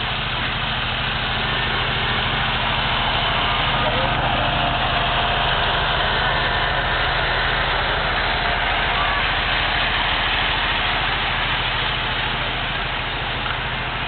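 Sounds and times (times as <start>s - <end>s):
tractor engine throbbing: 0.0s - 14.0s.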